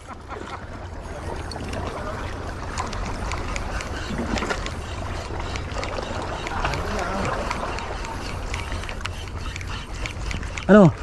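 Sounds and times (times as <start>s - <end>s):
waves lapping against rocks: 0.0s - 11.0s.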